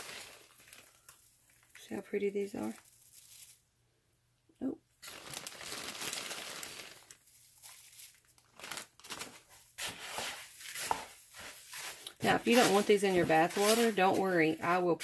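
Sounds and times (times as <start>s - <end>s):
plastic bag crinkling: 0.0s - 3.7s, 5.0s - 15.0s.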